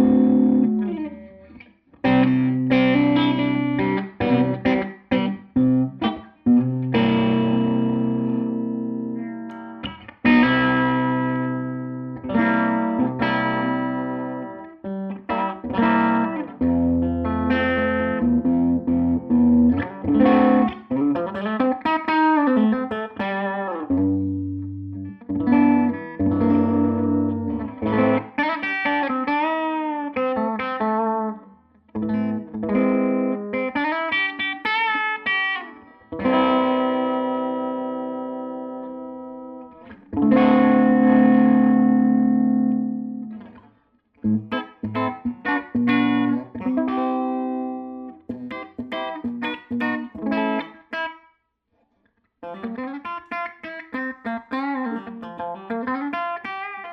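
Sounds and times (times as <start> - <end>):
electric guitar chords and lines: 0.0 - 51.2, 52.4 - 56.9.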